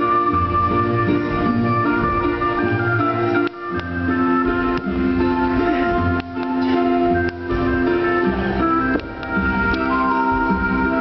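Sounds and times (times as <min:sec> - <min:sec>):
instrumental music with sustained notes: 0:00.0 - 0:11.0.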